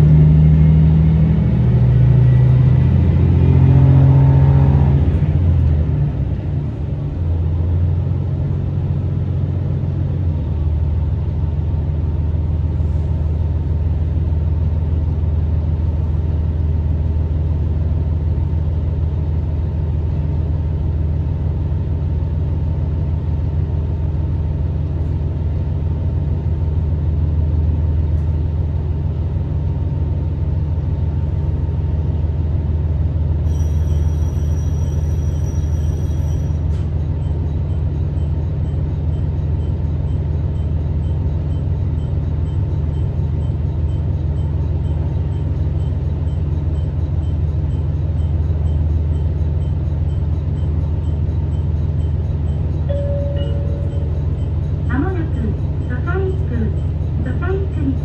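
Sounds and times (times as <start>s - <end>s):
railcar diesel engine: 0.0s - 58.0s.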